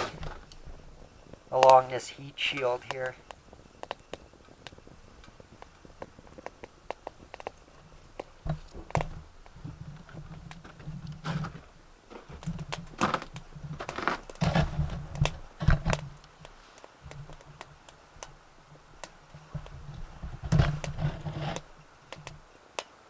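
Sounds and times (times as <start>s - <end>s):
stick fire crackling and popping: 0.0s - 23.0s.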